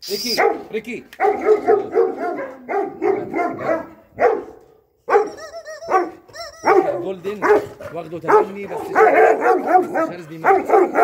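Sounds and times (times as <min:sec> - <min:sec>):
dog yelps: 0:00.3 - 0:11.0
dogs barking: 0:00.4 - 0:11.0.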